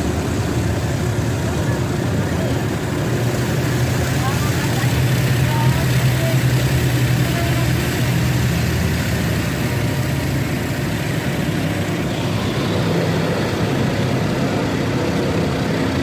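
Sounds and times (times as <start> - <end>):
car engine idling: 0.0 - 16.0
car wash machinery rushing: 0.0 - 16.0.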